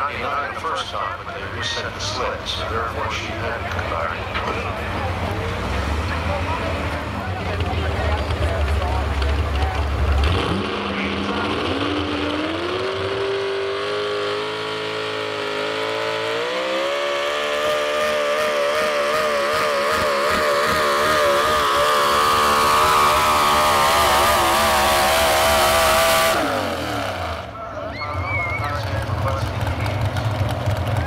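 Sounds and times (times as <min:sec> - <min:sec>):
truck engine at full throttle: 0:00.0 - 0:31.0.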